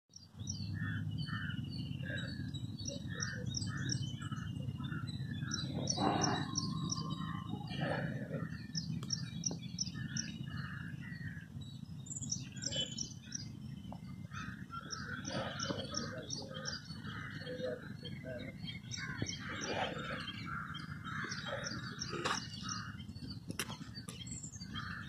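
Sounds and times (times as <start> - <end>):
wild birds chirping: 0.1 - 25.0
low background rumble: 0.2 - 25.0.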